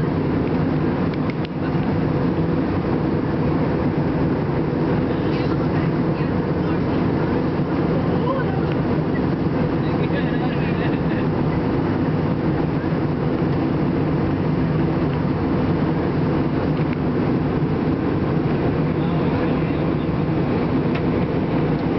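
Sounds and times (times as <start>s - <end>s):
airliner cabin drone: 0.0s - 21.9s.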